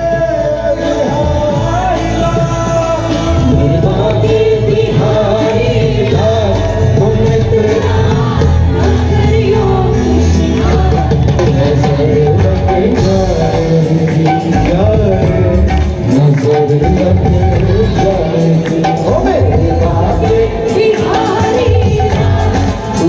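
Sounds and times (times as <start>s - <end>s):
live band through pa system: 0.0s - 23.0s.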